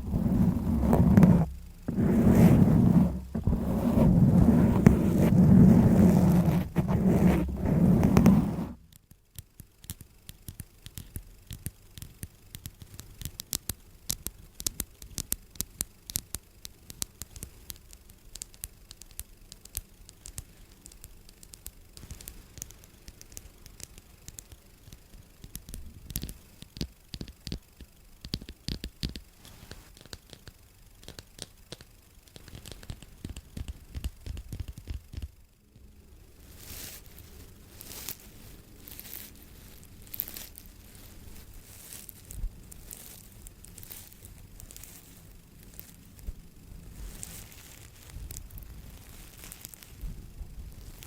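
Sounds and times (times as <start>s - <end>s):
sharp clicks and scratchy ticks: 0.0s - 51.0s.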